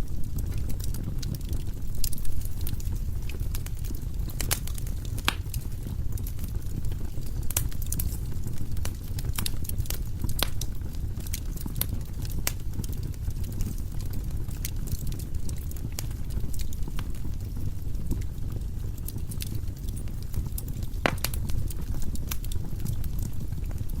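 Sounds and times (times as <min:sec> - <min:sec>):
firewood crackling and popping: 0:00.0 - 0:24.0
low rumble of flames: 0:00.0 - 0:24.0.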